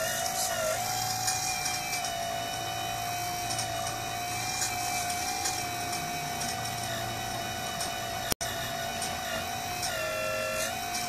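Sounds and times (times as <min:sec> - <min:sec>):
hydraulic pump whining: 0:00.0 - 0:11.0.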